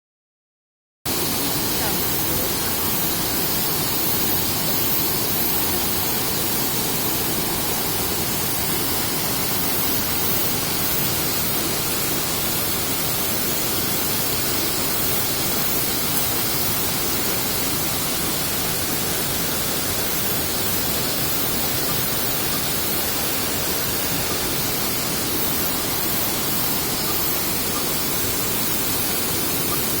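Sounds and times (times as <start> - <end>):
waterfall rushing: 1.1 - 30.0.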